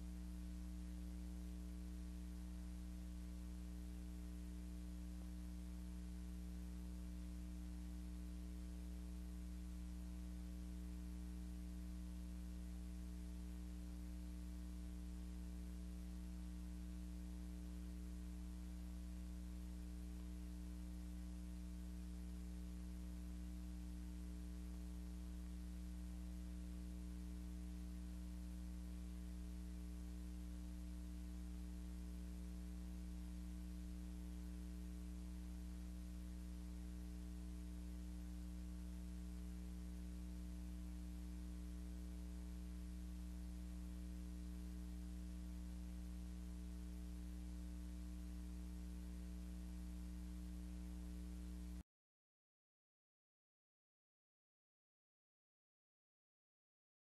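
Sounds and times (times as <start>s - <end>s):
electrical hum with faint hiss: 0.0s - 51.8s.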